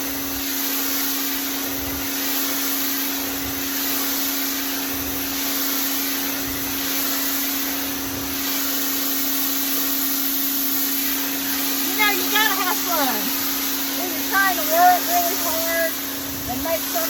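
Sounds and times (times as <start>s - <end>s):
pressure washer motor hum: 0.0s - 17.0s
water jet hissing: 0.0s - 17.0s.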